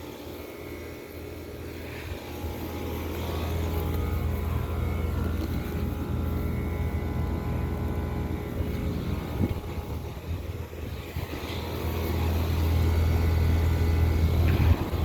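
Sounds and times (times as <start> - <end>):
air conditioner compressor hum: 0.0 - 15.0.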